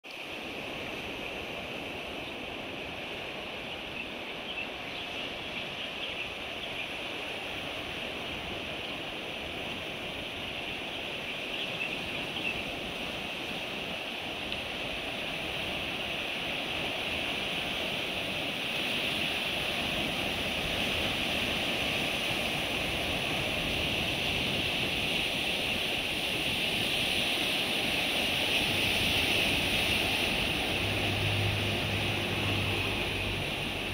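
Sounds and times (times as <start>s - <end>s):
surf washing over rocks: 0.1s - 33.9s.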